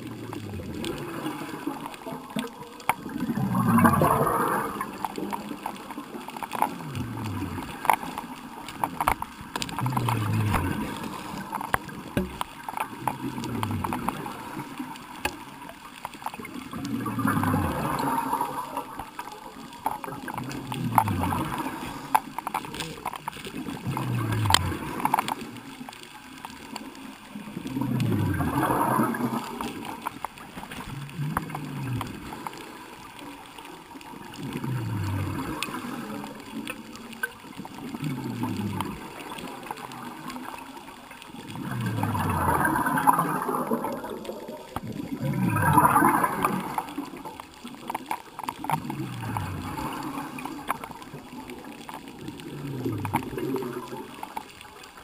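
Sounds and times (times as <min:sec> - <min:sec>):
bubbles bursting underwater: 0:00.0 - 0:15.6, 0:16.4 - 0:25.6, 0:27.5 - 0:32.9, 0:34.2 - 0:54.6.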